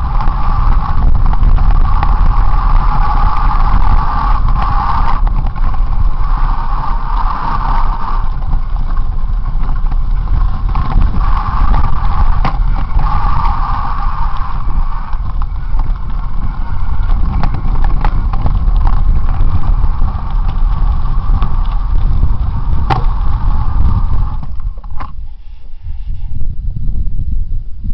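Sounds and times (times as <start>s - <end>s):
bike knocks and rattles: 0.0s - 25.2s
wind buffeting microphone: 0.0s - 27.9s.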